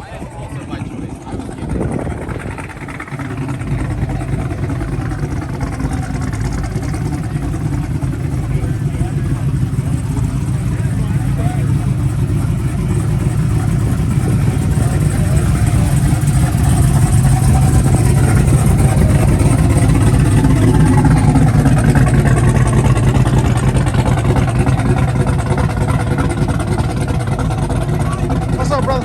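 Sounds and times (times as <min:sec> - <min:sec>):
car engine droning: 0:00.0 - 0:29.0.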